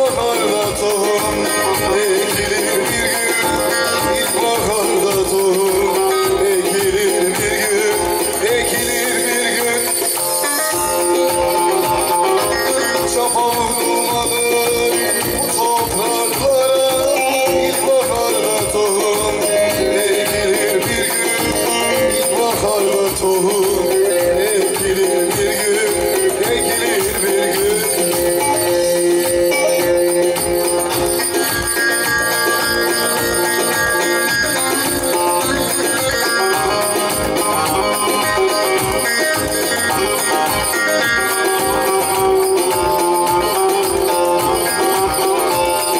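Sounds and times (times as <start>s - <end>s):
electronic keyboard accompaniment: 0.0s - 45.9s.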